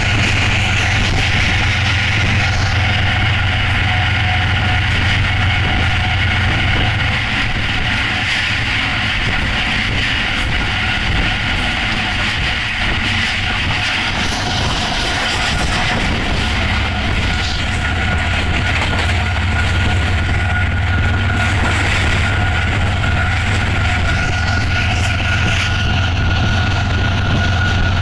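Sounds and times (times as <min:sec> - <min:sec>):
rushing wind: 0:00.0 - 0:28.0
train wheels rattling on rail: 0:00.0 - 0:28.0.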